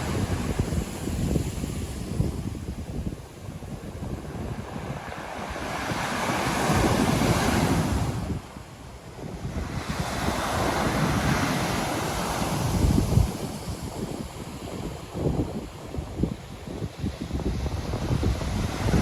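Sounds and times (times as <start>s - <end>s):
ocean waves washing in: 0.0s - 19.0s
wind rumble on microphone: 0.0s - 19.0s.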